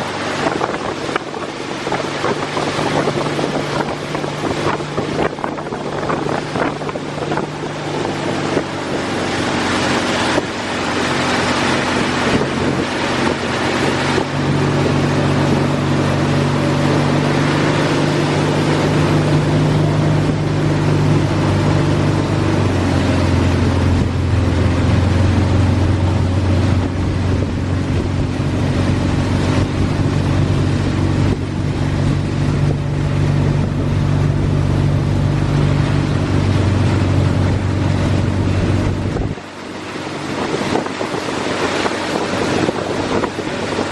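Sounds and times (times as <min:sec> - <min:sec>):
motorboat engine running: 0:00.0 - 0:43.9
wind buffeting microphone: 0:00.0 - 0:43.9.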